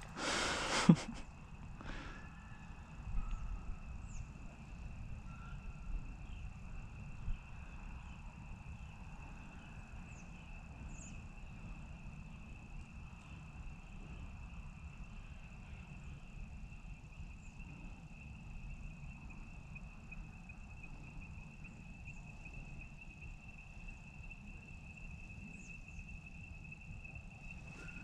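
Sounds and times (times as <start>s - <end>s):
faint chirp: 0.0s - 28.0s.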